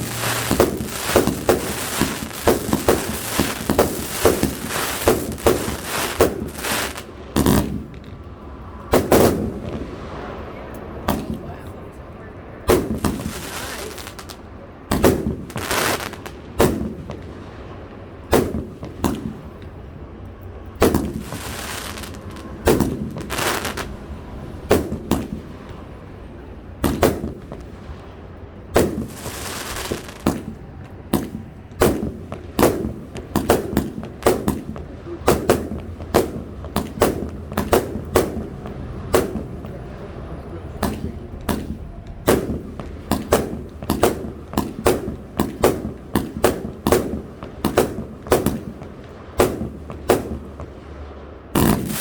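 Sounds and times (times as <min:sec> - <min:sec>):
firework shots and bursts: 0:00.0 - 0:10.3, 0:11.0 - 0:11.8, 0:12.6 - 0:19.9, 0:20.7 - 0:52.0
hissing crackle: 0:00.0 - 0:11.6, 0:12.7 - 0:19.8, 0:20.4 - 0:52.0.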